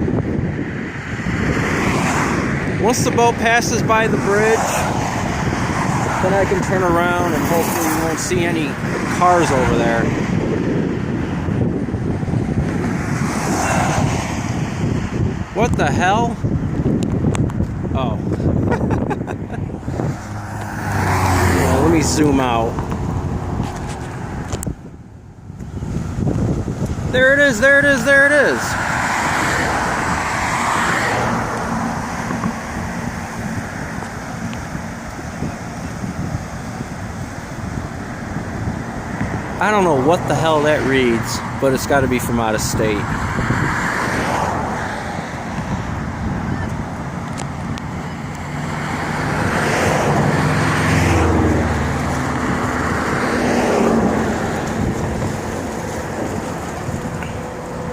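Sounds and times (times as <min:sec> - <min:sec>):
low engine hum: 0:00.0 - 0:57.9
traffic rumble: 0:00.0 - 0:57.9
wind on microphone: 0:00.0 - 0:57.9
car passing with tyre hiss: 0:00.1 - 0:02.9, 0:04.0 - 0:15.4, 0:19.6 - 0:24.5, 0:25.6 - 0:57.9.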